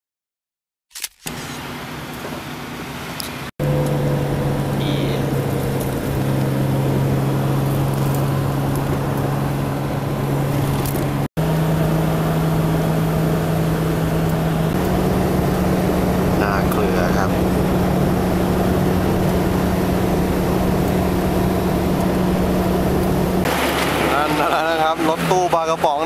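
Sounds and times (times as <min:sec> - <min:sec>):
road noise: 0:01.2 - 0:26.0
van engine hum: 0:01.3 - 0:26.0.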